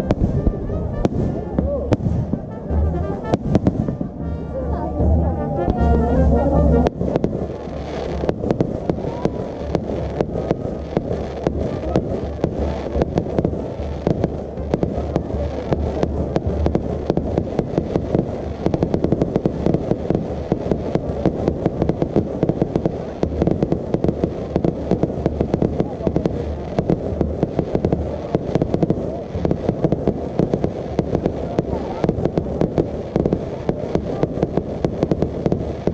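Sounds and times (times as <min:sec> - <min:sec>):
fireworks bangs and crackles: 0:00.0 - 0:35.9
low rumble: 0:00.0 - 0:35.9.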